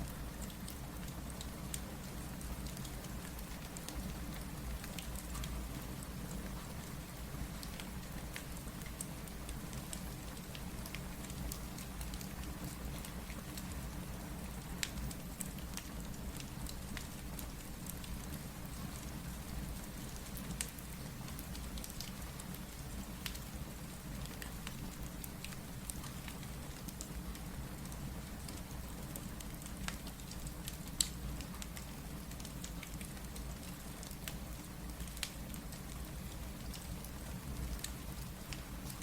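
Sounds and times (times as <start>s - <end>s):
steady rain hiss: 0.0s - 39.0s
wood fire crackling: 0.0s - 39.0s.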